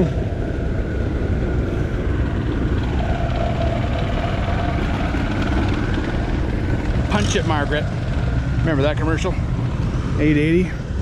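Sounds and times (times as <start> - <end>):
steady higher tone: 0.0 - 11.0
tractor engine idling: 0.0 - 11.0.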